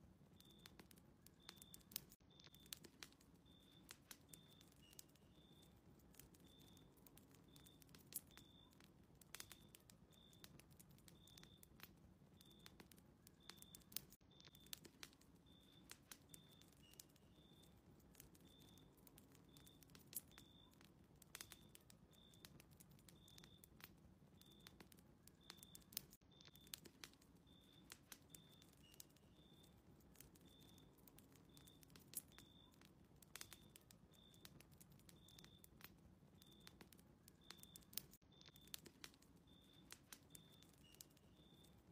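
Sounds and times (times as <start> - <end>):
fireplace fire crackling: 0.0 - 41.9
quiet high chirp: 0.3 - 41.9.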